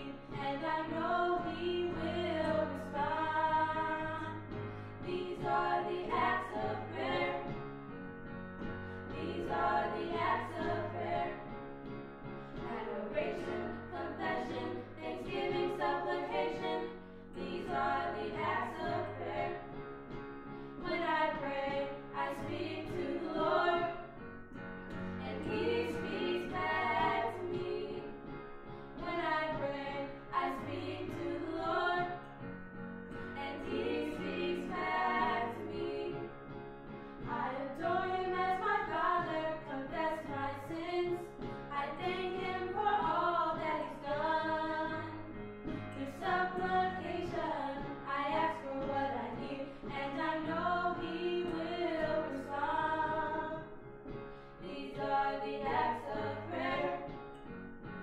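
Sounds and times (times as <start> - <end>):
women singing gospel song: 0.0 - 7.7, 8.9 - 11.6, 12.6 - 19.8, 20.8 - 24.3, 24.9 - 32.3, 33.1 - 36.4, 37.2 - 53.8, 54.6 - 57.3
piano chords: 0.0 - 58.0.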